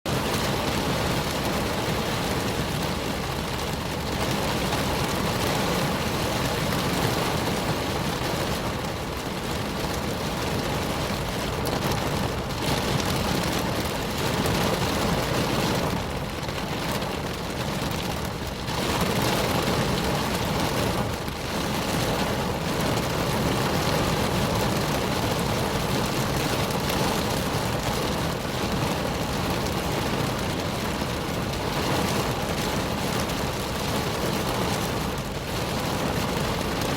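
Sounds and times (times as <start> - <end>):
rain pattering on car roof: 0.1 - 36.9.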